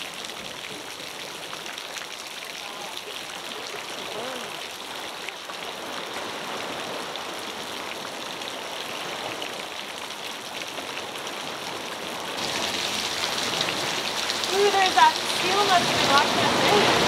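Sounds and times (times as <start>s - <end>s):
falling water: 0.0s - 17.0s
surf washing in: 2.6s - 17.0s.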